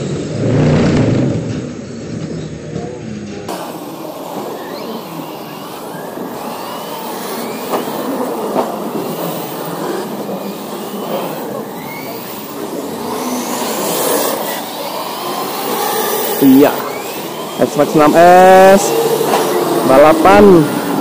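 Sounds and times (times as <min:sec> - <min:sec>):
drivetrain rushing noise: 0:00.0 - 0:21.0
electric motors whining: 0:01.5 - 0:21.0.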